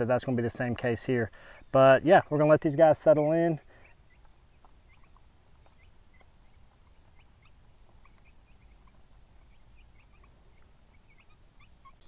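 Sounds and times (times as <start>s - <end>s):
chicks peeping: 0.2s - 12.0s.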